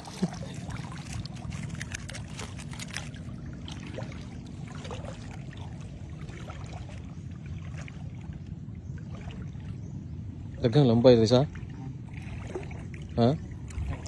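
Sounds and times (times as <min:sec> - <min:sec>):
seawater sloshing around legs: 0:00.0 - 0:14.0
steady low rumble: 0:00.0 - 0:14.0.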